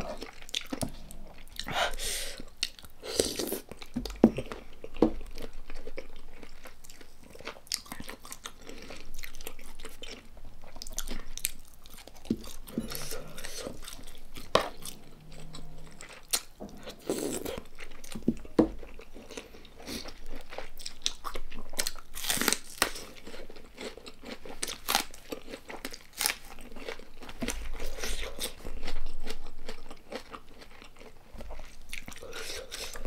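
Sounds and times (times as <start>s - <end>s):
person chewing wetly: 0.0s - 33.0s.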